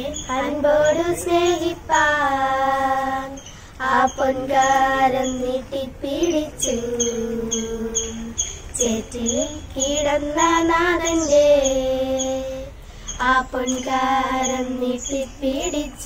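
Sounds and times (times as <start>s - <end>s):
girls singing together: 0.0s - 16.0s.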